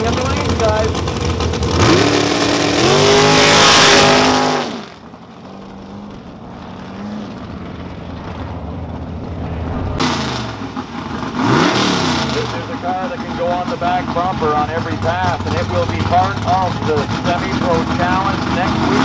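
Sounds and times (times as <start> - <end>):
drag car engine: 0.0 - 19.0
dragster engine at full throttle: 0.0 - 19.0.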